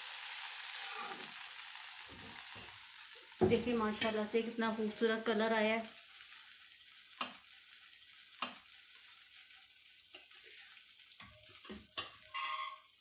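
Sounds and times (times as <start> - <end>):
faint steady sizzle: 0.0 - 13.0.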